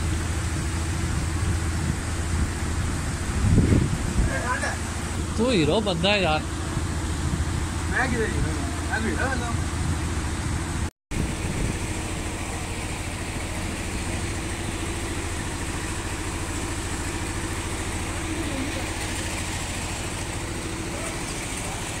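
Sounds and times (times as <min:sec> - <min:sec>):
idling engine hum: 0:00.0 - 0:22.0.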